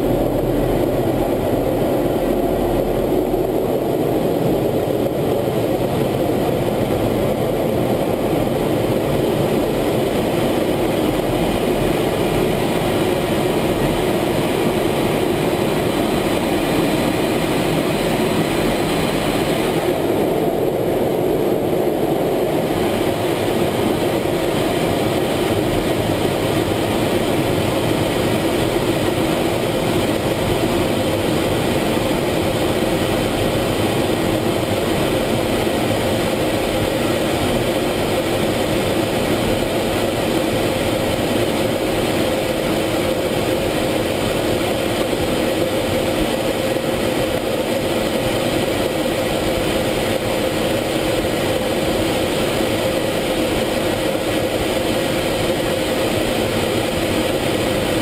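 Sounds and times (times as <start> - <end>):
jet cockpit engine drone: 0.0 - 58.0.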